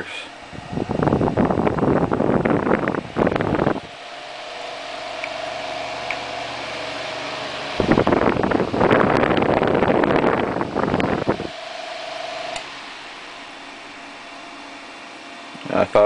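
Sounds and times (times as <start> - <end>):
air gusting on microphone: 0.0 - 14.6
desk fan humming and whirring: 0.0 - 16.0.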